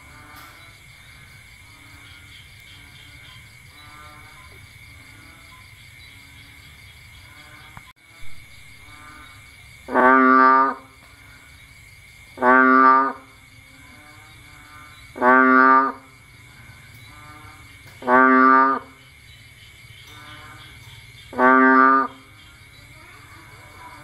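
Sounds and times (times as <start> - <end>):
chorus of faint frog calls: 0.0 - 24.0
loud bullfrog calls: 0.0 - 24.0.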